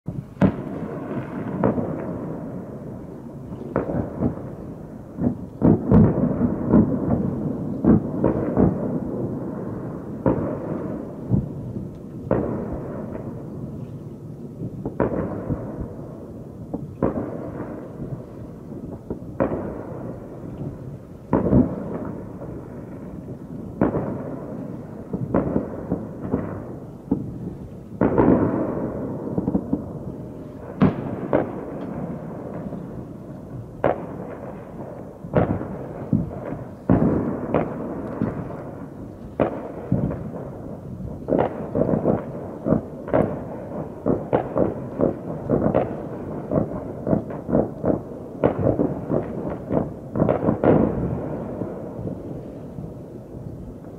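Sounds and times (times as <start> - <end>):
distant firework bangs: 0.1 - 53.9.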